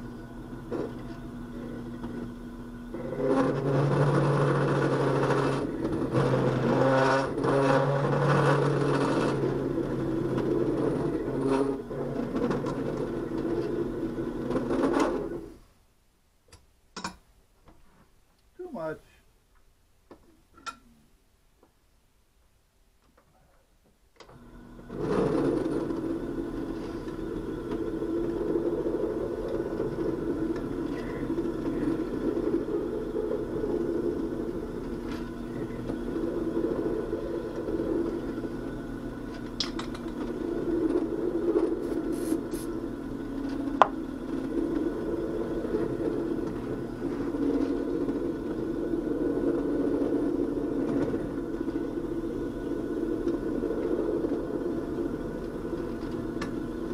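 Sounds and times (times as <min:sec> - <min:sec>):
drill press motor running: 0:00.0 - 0:15.6, 0:24.2 - 0:56.9.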